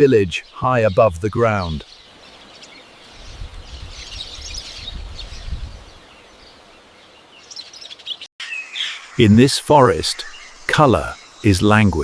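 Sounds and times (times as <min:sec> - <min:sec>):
faint forest hiss: 0:00.0 - 0:12.0
small birds chirping: 0:00.0 - 0:12.0.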